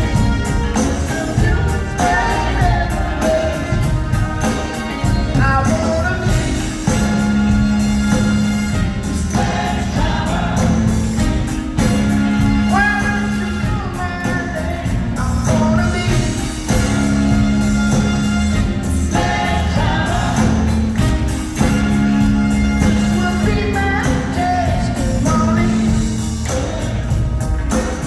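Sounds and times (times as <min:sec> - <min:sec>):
drum beat: 0:00.0 - 0:28.0
lead singing: 0:00.0 - 0:28.0
live band playing funk-rock: 0:00.0 - 0:28.0.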